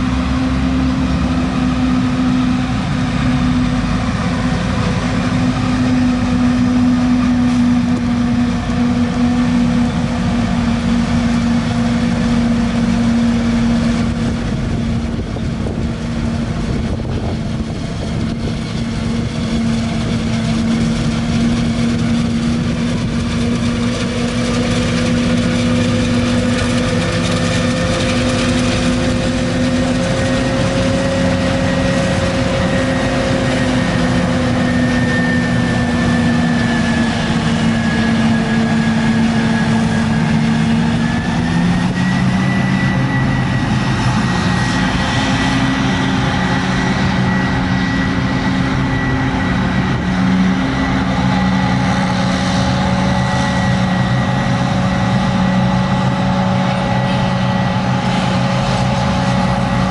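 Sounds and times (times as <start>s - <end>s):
tractor engines running: 0.0s - 59.9s.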